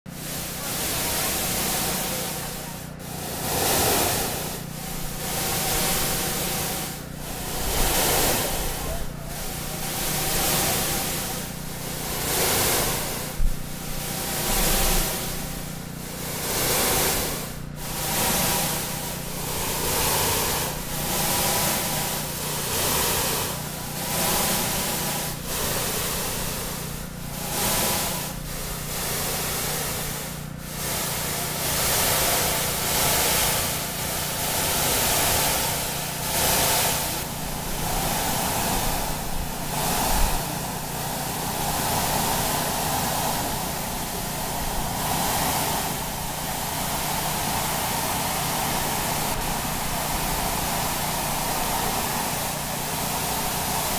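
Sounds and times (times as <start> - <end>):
steady low hum: 0.1 - 53.9
synthesized surf-like noise: 0.1 - 53.9.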